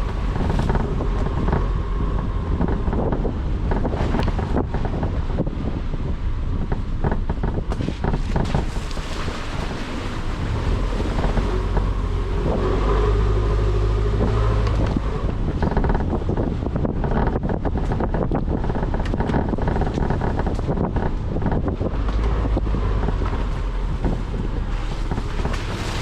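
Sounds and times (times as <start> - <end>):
car engine: 0.0 - 26.0
road noise: 0.0 - 26.0
wind buffeting on microphone: 0.0 - 26.0.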